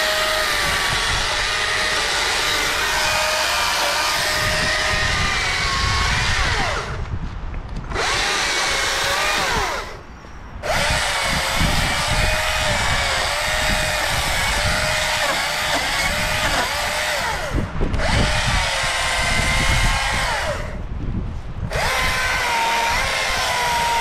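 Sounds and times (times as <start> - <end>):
battery chainsaw whining: 0.0 - 7.1, 7.9 - 20.8, 21.7 - 24.0.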